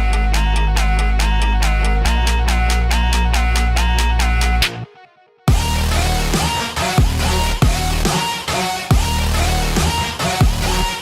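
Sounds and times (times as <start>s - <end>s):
dubstep music with heavy bass: 0.0s - 11.0s.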